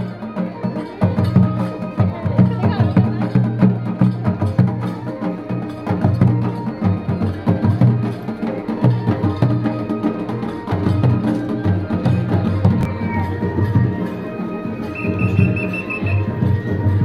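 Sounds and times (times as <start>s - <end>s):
folk music: 0.0s - 17.0s
steady percussion beat: 0.0s - 17.0s.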